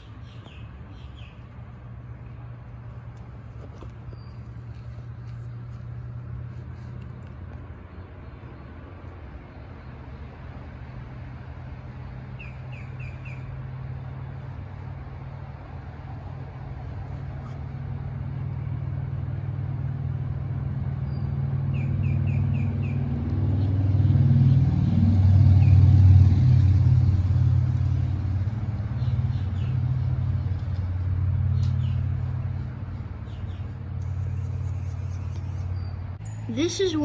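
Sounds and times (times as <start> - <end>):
low motor rumble: 0.0 - 37.0.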